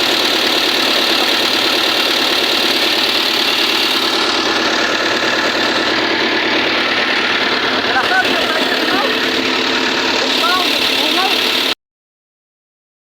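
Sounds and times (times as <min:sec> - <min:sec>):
diesel engine idling with knock: 0:00.0 - 0:11.8.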